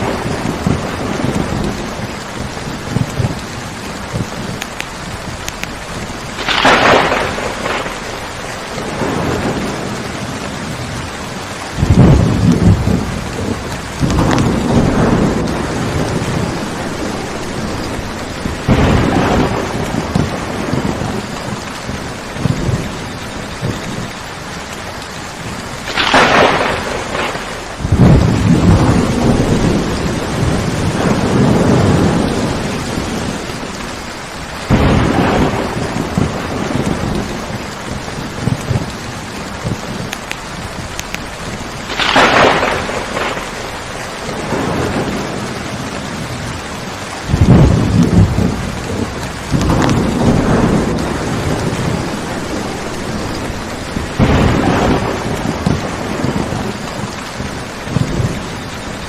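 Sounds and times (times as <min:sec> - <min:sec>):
sharp thunder clap: 0:00.0 - 0:11.0, 0:11.7 - 0:23.0, 0:25.8 - 0:33.8, 0:34.7 - 0:46.5, 0:47.2 - 0:58.5
steady rain: 0:00.0 - 0:59.0
thunder rumbling: 0:00.0 - 0:59.0.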